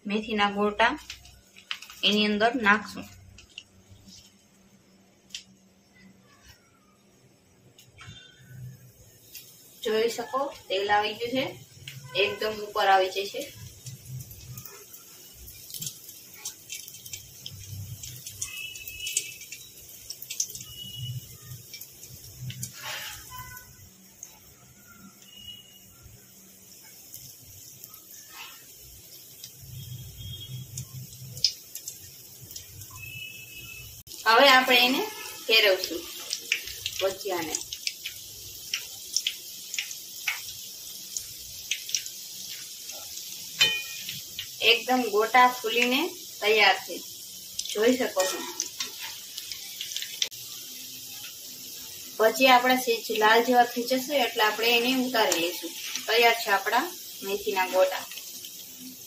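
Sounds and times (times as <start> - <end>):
hot oil sizzling and popping: 0.0 - 59.0.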